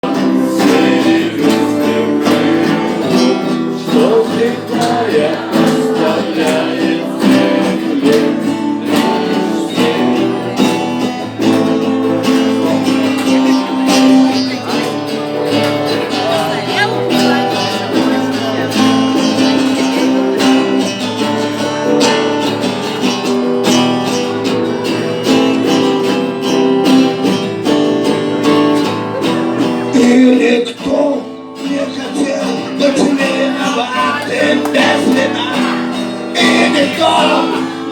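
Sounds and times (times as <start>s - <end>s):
strummed acoustic guitar: 0.0s - 37.9s.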